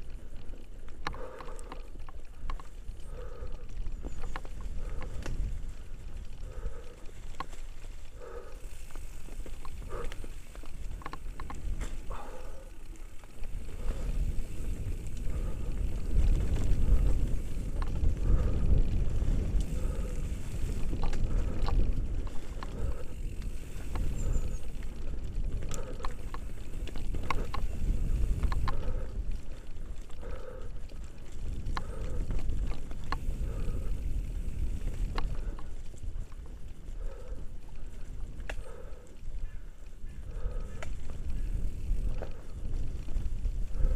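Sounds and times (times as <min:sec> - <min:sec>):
bike clicks and rattles: 0:00.0 - 0:43.9
tyre and wind rumble: 0:00.0 - 0:43.9.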